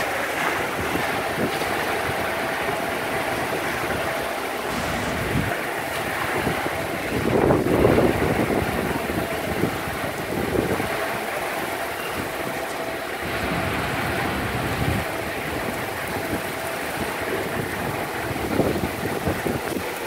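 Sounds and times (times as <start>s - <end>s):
storm wind buffeting microphone: 0.0s - 20.0s
water sloshing in pool: 0.0s - 20.0s.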